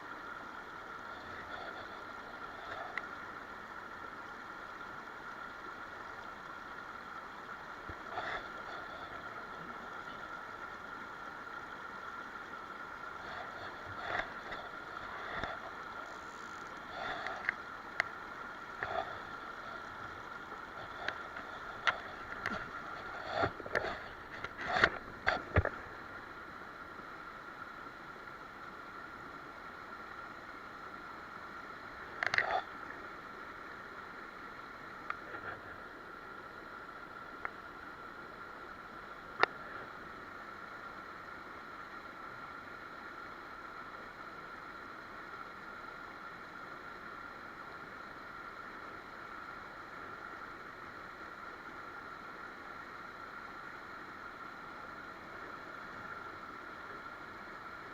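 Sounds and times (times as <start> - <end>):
mountain stream running: 0.0 - 57.9.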